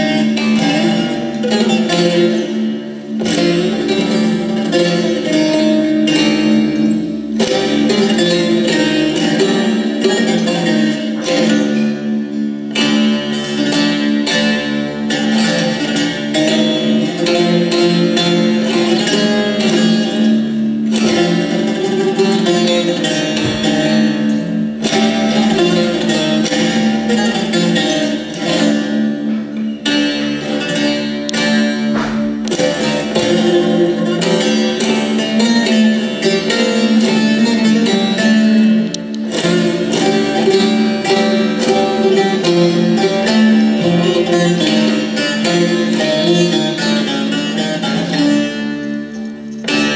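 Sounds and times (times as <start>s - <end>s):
plucked lute folk melody: 0.0s - 49.9s.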